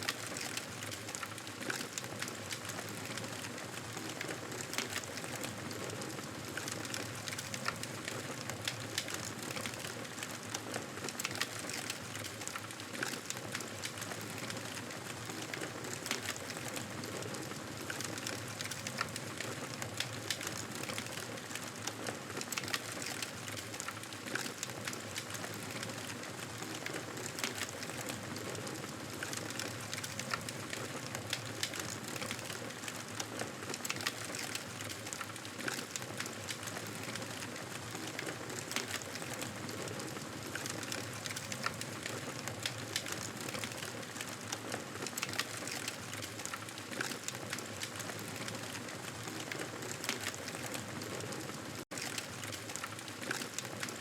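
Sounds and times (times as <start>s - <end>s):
campfire hissing and crackling: 0.0s - 54.0s.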